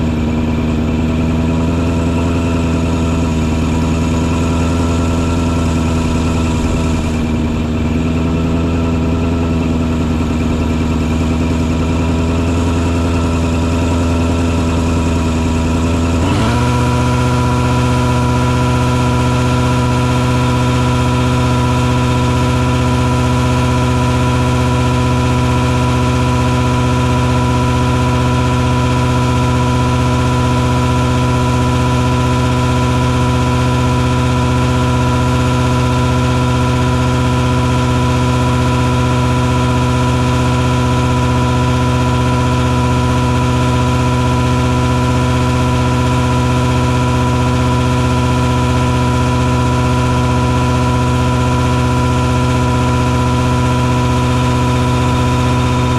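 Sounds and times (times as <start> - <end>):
truck engine humming: 0.0 - 55.9.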